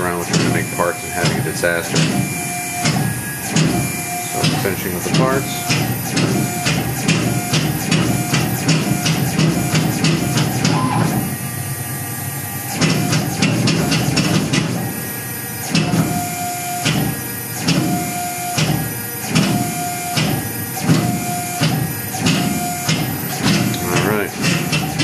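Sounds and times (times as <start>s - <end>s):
motors whining: 0.0s - 25.0s.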